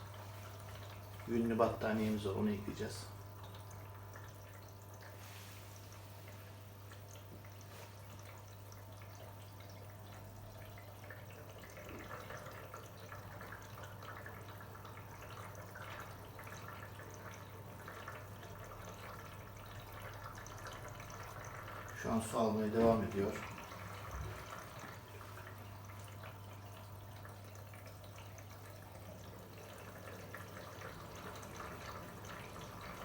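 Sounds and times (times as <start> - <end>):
water running into washing machine: 0.0 - 33.0.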